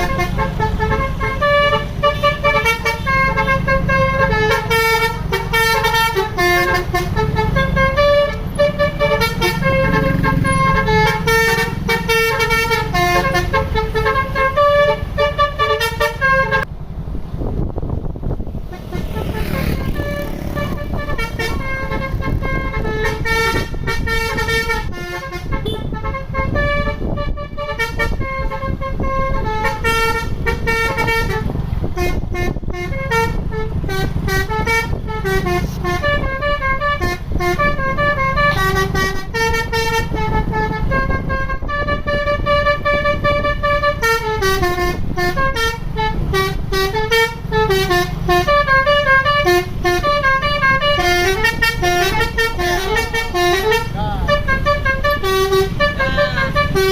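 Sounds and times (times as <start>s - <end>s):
bus musical horn melody: 0.0s - 16.7s, 18.6s - 56.9s
low engine rumble: 0.0s - 56.9s.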